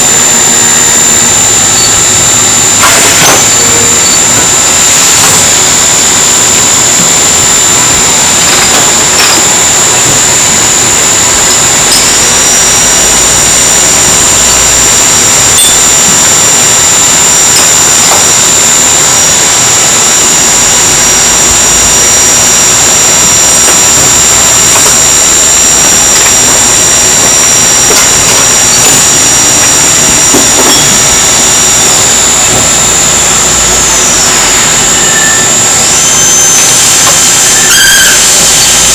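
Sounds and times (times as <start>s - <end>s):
lathe running with high whine: 0.0s - 38.9s
lower machine whine: 0.0s - 38.9s.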